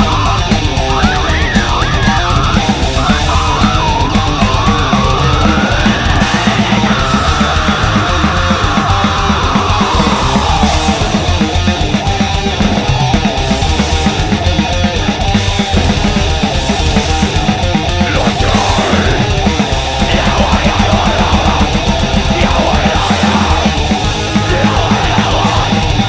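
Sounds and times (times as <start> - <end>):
distorted guitars: 0.0 - 26.0
fast pounding drumming: 0.0 - 26.0.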